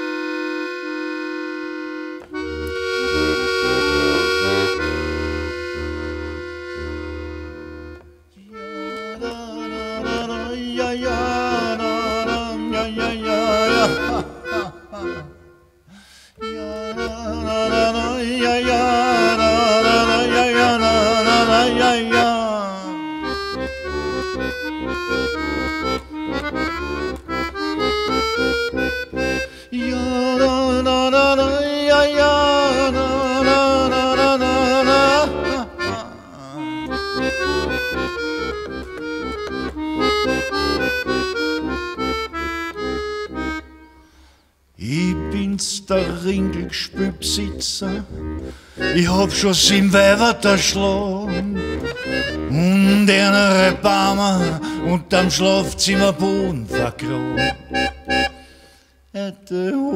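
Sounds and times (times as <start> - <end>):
accordion playing: 0.0 - 59.2.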